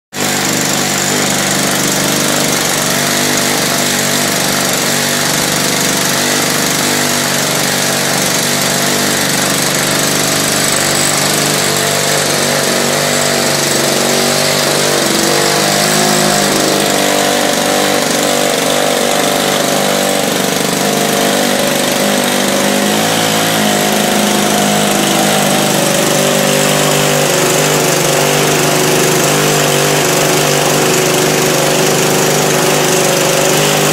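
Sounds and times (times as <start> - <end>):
two-stroke model plane engine running: 0.1 - 33.9.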